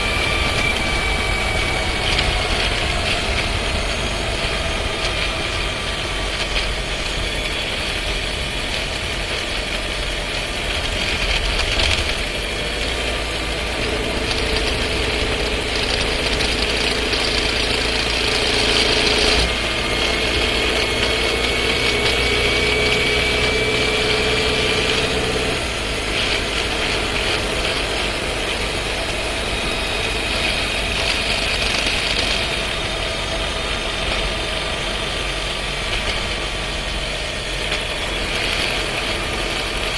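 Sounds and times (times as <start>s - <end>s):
car engine running: 0.0s - 39.9s
gearbox rattle: 0.0s - 39.9s.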